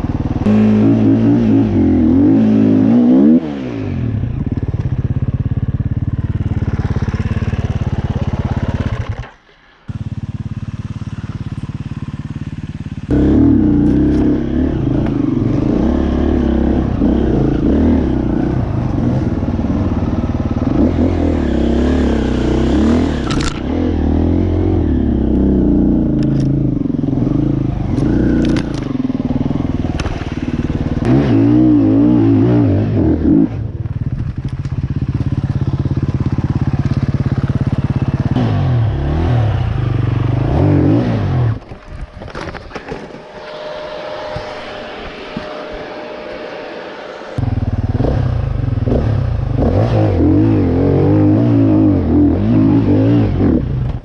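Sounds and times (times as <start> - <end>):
dirt bike engine revving: 0.0 - 41.9, 43.1 - 54.0.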